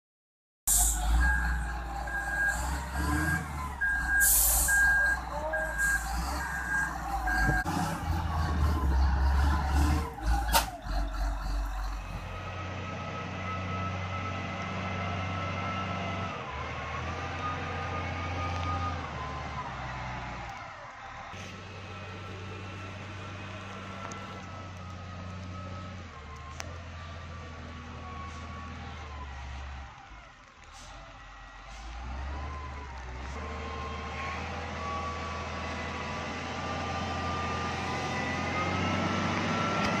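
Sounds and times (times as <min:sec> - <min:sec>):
diesel engine under load: 0:00.7 - 0:40.0.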